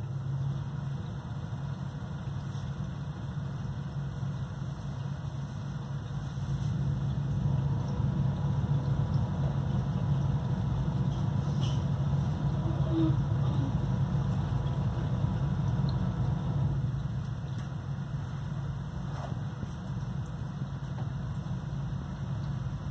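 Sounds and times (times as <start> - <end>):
aquarium equipment humming: 0.0 - 22.9.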